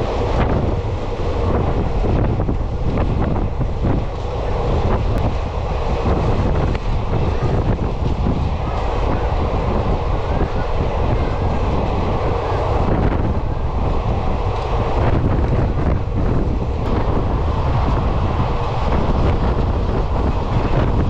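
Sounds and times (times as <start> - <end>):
train wheels rumbling: 0.0 - 21.0
wind buffeting microphone: 0.0 - 21.0.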